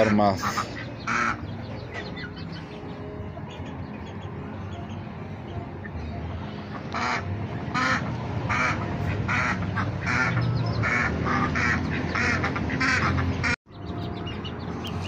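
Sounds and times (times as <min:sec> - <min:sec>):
ducks quacking: 0:00.0 - 0:05.0, 0:06.4 - 0:13.6.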